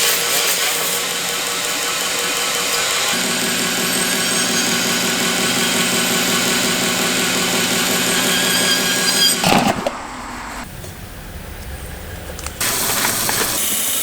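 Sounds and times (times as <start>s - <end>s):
power tool whining: 0.0s - 14.0s.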